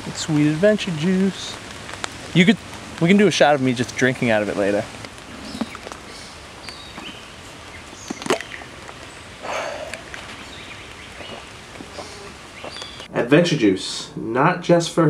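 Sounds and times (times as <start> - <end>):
short rustling: 0.0 - 13.1
birds chirping: 0.0 - 14.1.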